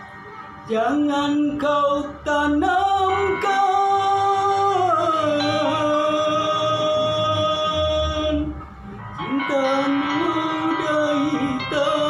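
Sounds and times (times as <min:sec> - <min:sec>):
man singing: 0:00.6 - 0:08.6, 0:09.2 - 0:12.0.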